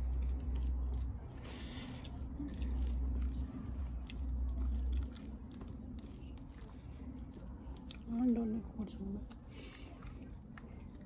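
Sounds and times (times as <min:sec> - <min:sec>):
chewing food: 0:00.0 - 0:11.0.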